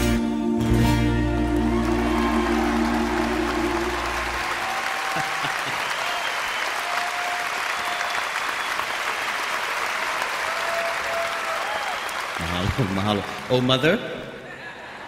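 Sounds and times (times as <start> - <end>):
audience applauding: 1.5 - 14.0.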